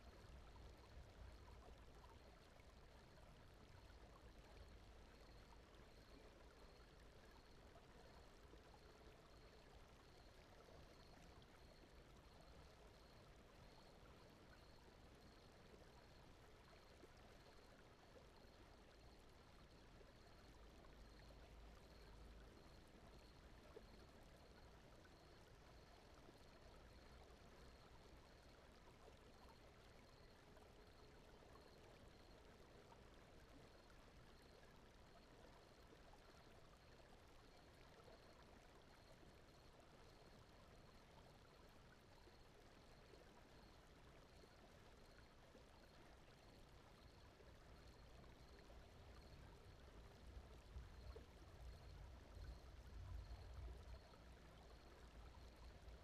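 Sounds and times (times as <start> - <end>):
low brown noise: 0.0 - 56.0.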